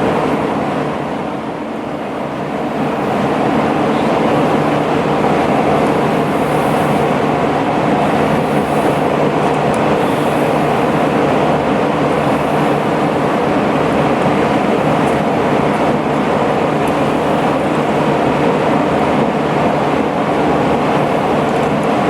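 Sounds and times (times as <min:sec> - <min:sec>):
machine running with low hum: 0:00.0 - 0:22.0.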